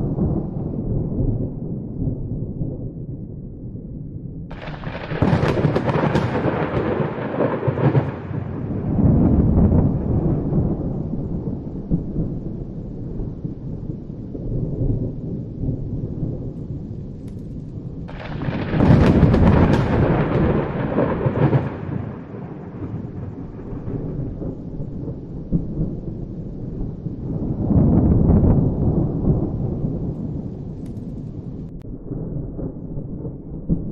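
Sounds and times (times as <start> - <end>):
rain: 0.0 - 3.1, 4.5 - 33.9
thunder rumbling: 0.0 - 33.9
thunder crack: 4.5 - 33.9.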